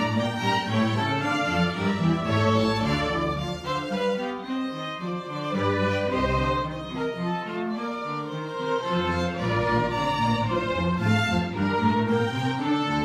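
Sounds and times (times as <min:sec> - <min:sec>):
string orchestra playing: 0:00.0 - 0:13.0.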